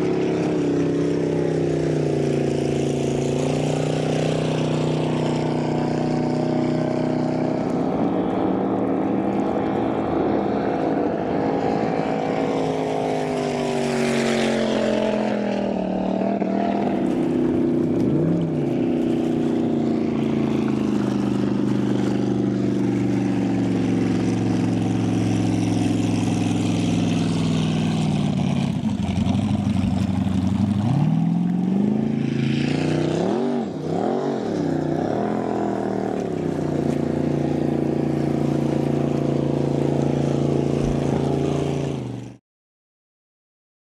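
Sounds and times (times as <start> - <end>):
speedboat engine running hard: 0.0 - 42.4.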